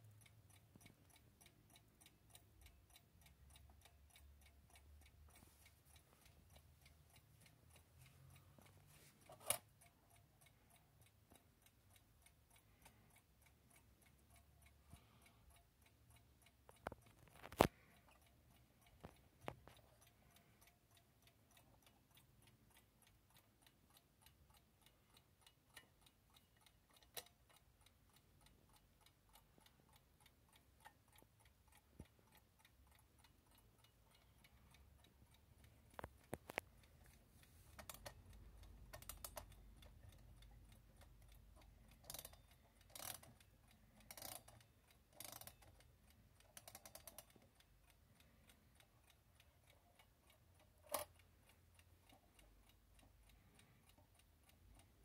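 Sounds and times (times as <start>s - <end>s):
alarm clock ticking: 0.0s - 55.0s.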